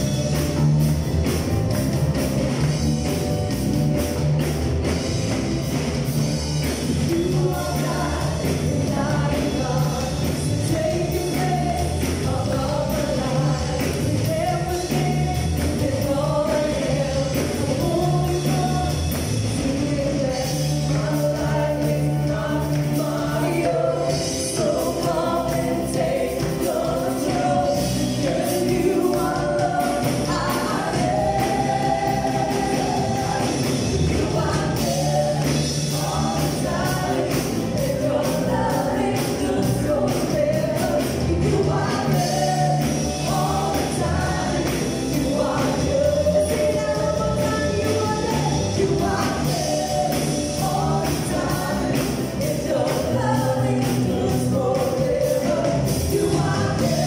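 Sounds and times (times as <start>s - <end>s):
gospel band playing: 0.0s - 57.0s
singers in harmony: 5.7s - 57.0s.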